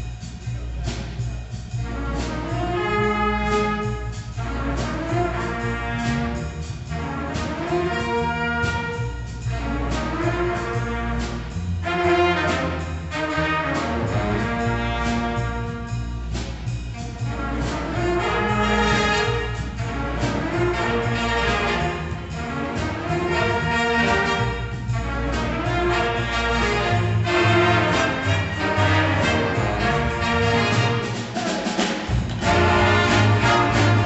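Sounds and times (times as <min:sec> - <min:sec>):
upright bass: 0:00.0 - 0:31.4, 0:32.1 - 0:34.0
saxophones and brass: 0:00.0 - 0:34.0.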